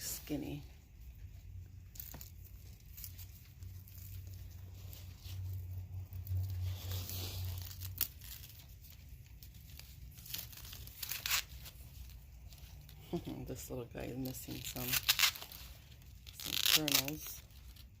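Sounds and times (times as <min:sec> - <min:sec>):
corn husk rustling and tearing: 0:00.0 - 0:18.0.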